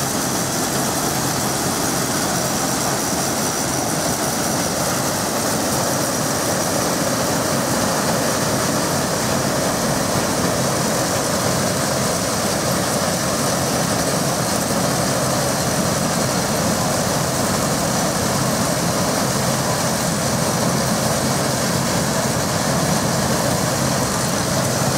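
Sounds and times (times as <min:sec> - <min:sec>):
combine harvester running: 0:00.0 - 0:24.9.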